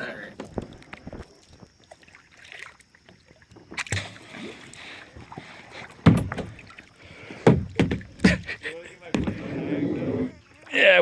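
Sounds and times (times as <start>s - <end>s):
kayak paddle strokes splashing: 0.0s - 11.0s
water washing: 0.0s - 11.0s.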